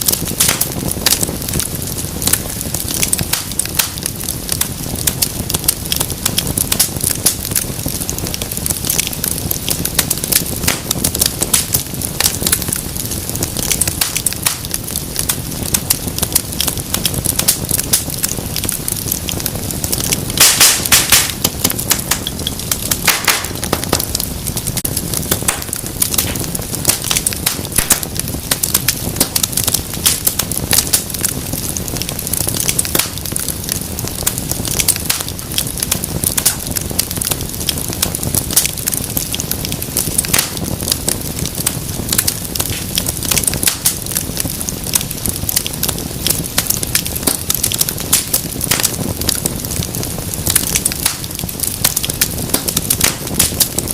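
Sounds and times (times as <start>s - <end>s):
fire burning with low rush: 0.0s - 53.9s
fire crackles and pops: 0.0s - 53.9s.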